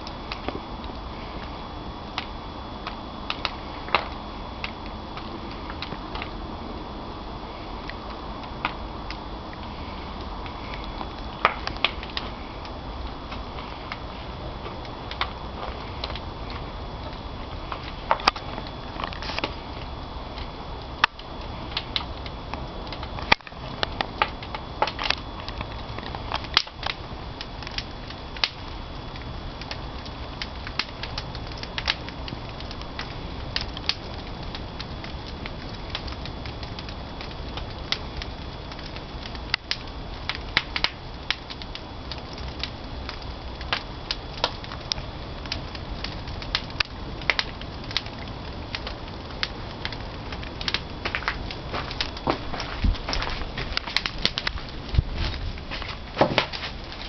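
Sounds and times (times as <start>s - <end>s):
fire rushing noise: 0.0s - 57.0s
firewood crackling and popping: 0.0s - 57.0s.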